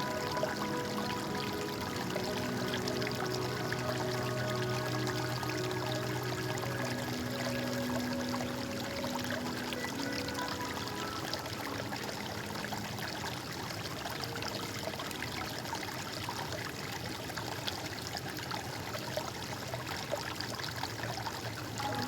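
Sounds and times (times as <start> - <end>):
water flowing and trickling: 0.0 - 22.0.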